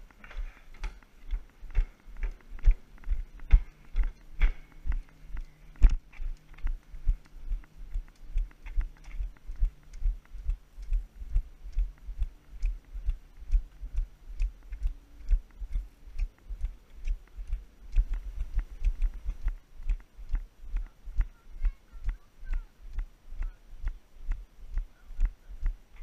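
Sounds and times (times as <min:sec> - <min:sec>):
walking pole tips clicking: 0:00.0 - 0:21.8
walking footsteps: 0:00.0 - 0:26.0.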